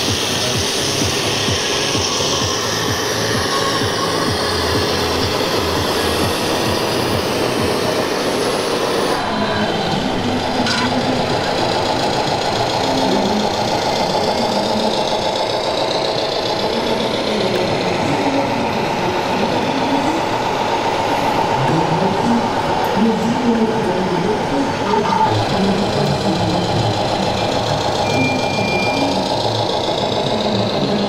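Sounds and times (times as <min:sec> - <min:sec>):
crowd hubbub in a hall: 0:00.0 - 0:31.0
simulated diesel engine chatter: 0:00.0 - 0:31.0.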